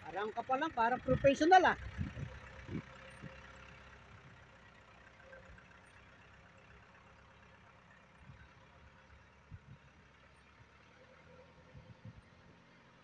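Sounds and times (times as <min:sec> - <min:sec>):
diesel vehicle running faintly: 0:00.0 - 0:13.0.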